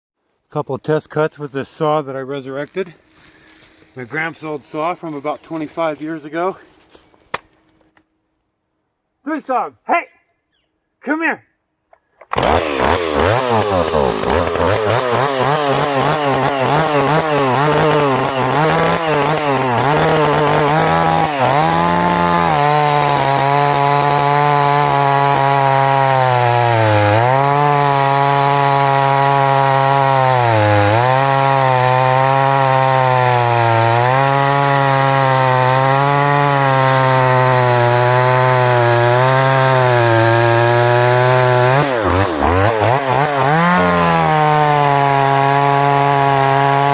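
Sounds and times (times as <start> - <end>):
chainsaw cutting wood: 2.8 - 8.1, 12.0 - 46.9.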